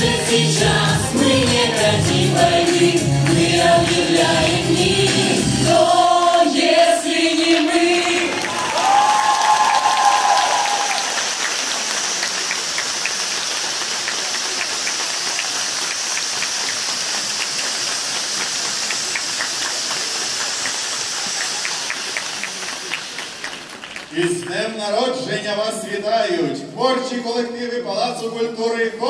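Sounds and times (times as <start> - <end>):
spark fountains hissing: 0.4 - 24.2.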